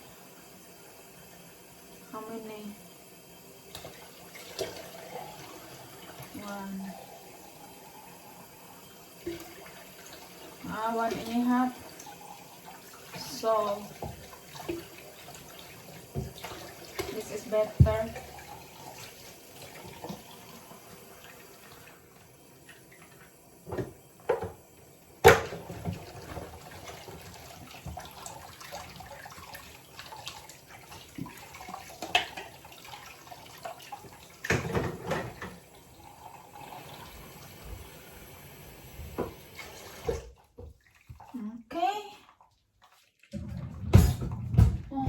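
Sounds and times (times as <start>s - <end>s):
water running from a tap: 0.0s - 45.0s.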